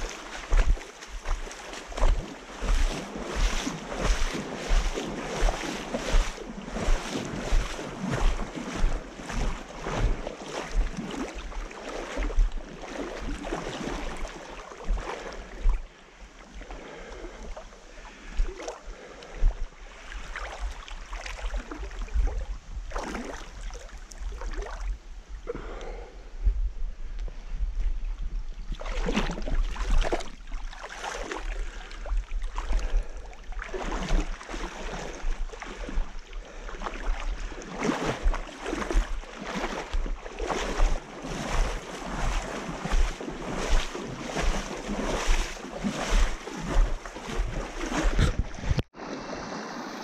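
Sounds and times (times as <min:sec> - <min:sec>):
feet wading through water: 0:00.0 - 0:25.8, 0:27.3 - 0:50.0.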